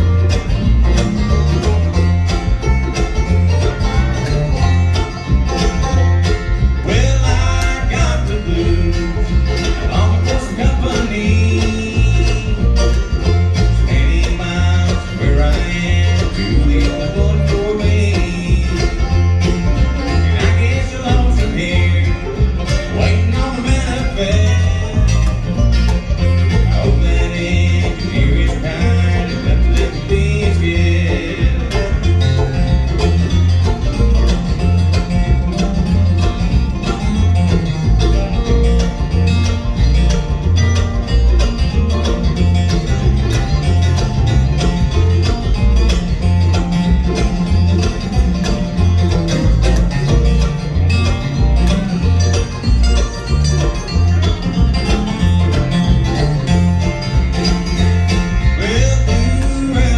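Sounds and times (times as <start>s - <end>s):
acoustic guitar picking: 0.0s - 59.9s
banjo picking: 0.0s - 59.9s
bass notes: 0.0s - 59.9s.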